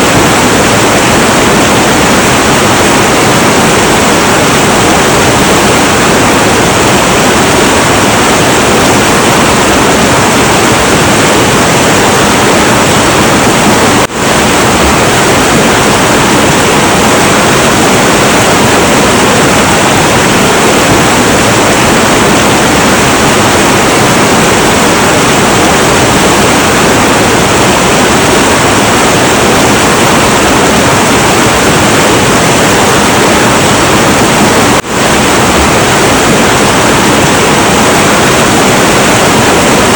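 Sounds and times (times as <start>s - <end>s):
turbulent river water rushing: 0.0s - 39.9s.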